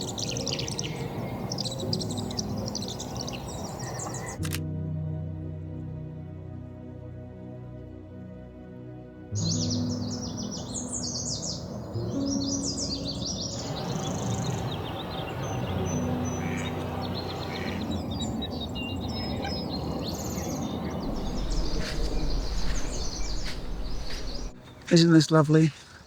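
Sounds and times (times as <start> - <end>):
birds chirping and trilling: 0.0 - 4.5, 9.4 - 26.0.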